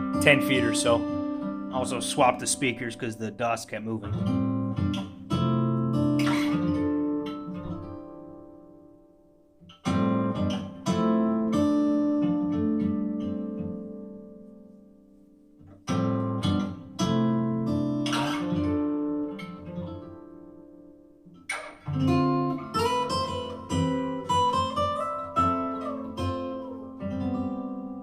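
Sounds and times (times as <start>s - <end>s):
acoustic guitar music from speaker: 0.0s - 28.0s.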